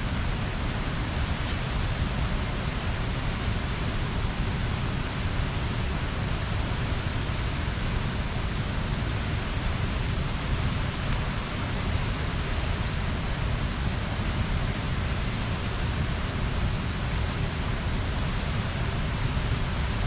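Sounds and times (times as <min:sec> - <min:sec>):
bonfire rushing: 0:00.0 - 0:20.0
faint fire crackles: 0:00.0 - 0:20.0.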